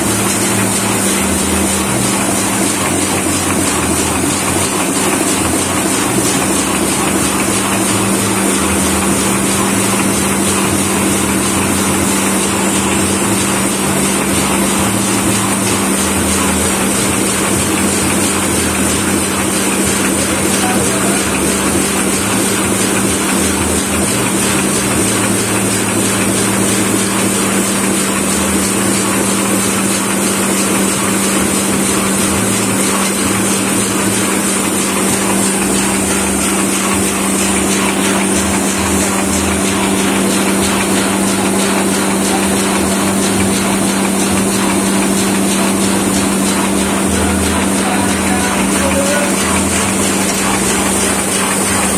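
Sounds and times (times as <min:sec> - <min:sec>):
printing press running: 0:00.0 - 0:51.9.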